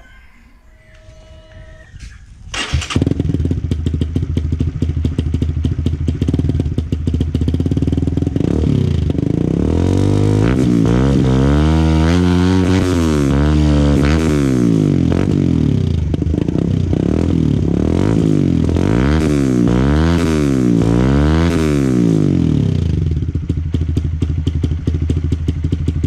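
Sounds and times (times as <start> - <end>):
motorcycle engine idling and revving: 2.4 - 26.0.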